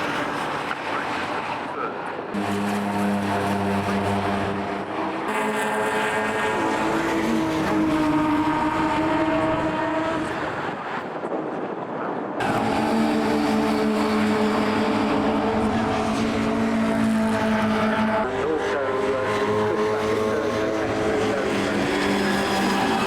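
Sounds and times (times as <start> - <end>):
racing car engines at high revs: 0.0 - 11.3, 12.4 - 23.0.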